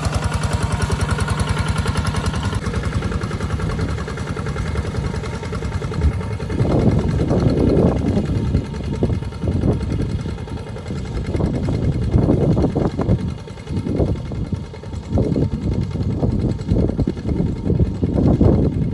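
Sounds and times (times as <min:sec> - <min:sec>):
walking tractor diesel engine: 0:00.0 - 0:18.9.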